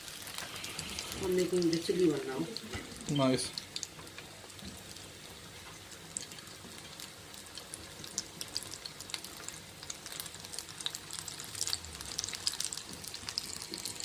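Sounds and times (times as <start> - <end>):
oil crackles: 0.0 - 5.0, 5.6 - 14.0
food sizzling in hot oil: 0.0 - 14.0.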